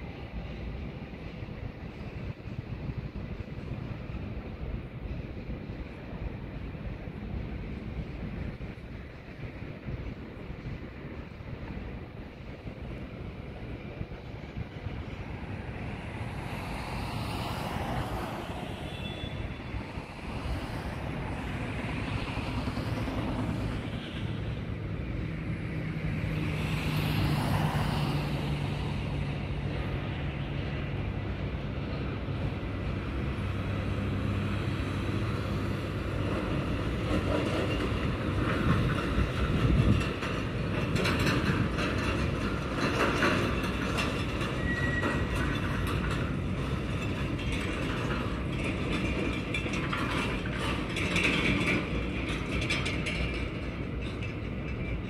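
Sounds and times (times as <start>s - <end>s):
freight train rumbling: 0.0s - 55.0s
train wheels clicking and clattering: 0.1s - 55.0s.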